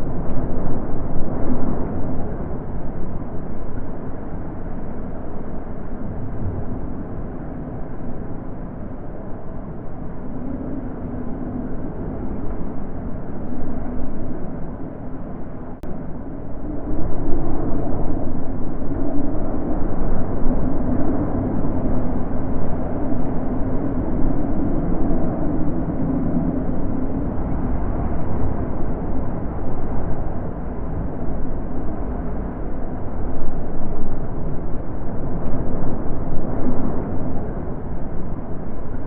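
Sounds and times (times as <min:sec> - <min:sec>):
wind blowing in gusts: 0:00.0 - 0:39.0.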